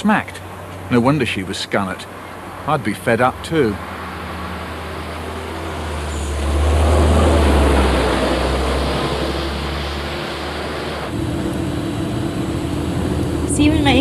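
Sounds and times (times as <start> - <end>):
passing vehicle rumbling: 0.0 - 14.0.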